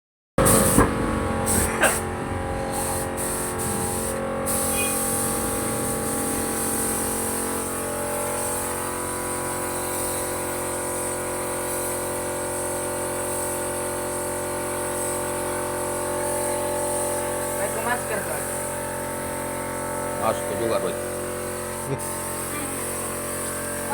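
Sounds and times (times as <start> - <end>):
air compressor running: 0.4 - 23.9
paint spray gun hissing: 0.4 - 23.9.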